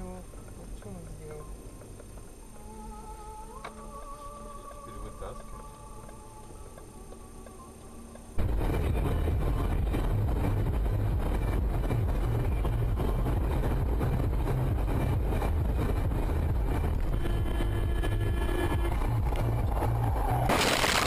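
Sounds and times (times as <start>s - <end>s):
car driving low rumble: 0.0s - 21.0s.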